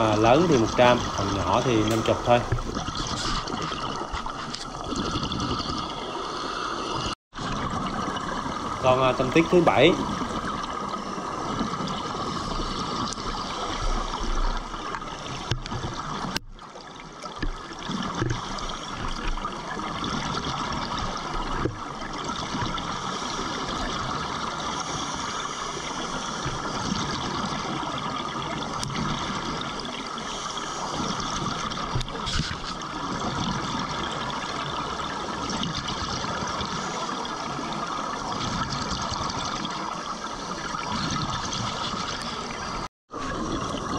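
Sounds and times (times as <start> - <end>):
underwater air bubbles rushing: 0.0 - 43.9.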